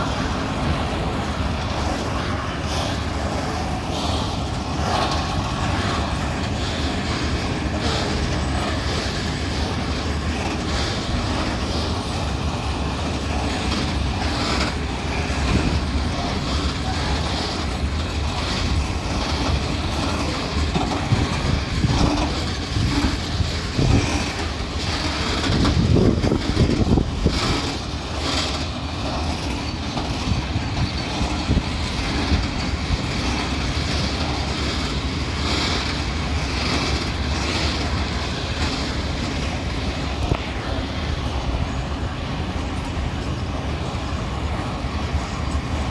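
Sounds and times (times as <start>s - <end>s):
train rumbling past: 0.0s - 45.9s
train wheels knocking: 0.0s - 45.9s.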